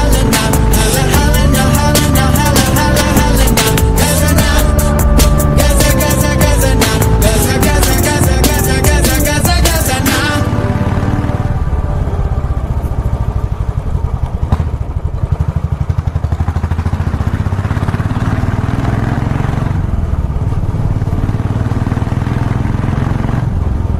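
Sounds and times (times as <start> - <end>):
motorcycle engine cruising: 0.0 - 23.9.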